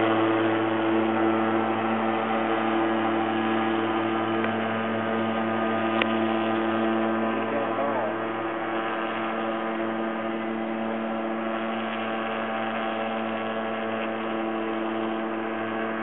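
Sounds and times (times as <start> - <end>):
plane engine droning: 0.0 - 16.0.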